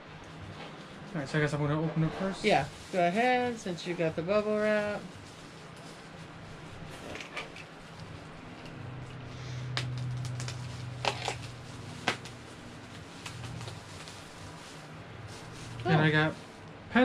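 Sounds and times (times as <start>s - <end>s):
bubble wrap rustling and crackling: 2.2s - 16.7s.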